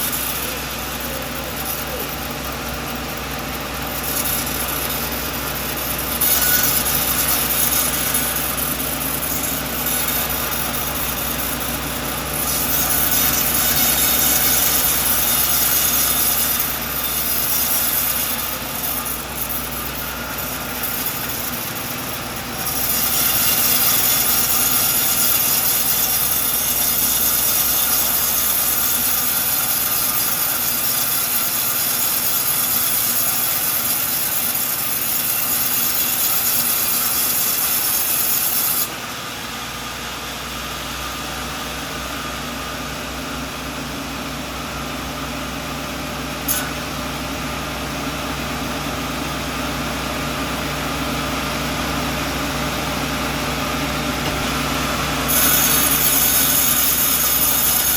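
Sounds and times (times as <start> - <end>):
saw cutting through log: 0.0 - 57.9.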